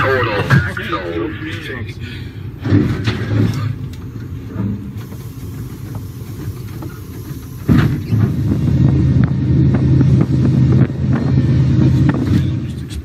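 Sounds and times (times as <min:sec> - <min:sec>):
locomotive cab rumble: 0:00.0 - 0:13.0
steady hum: 0:00.0 - 0:13.0.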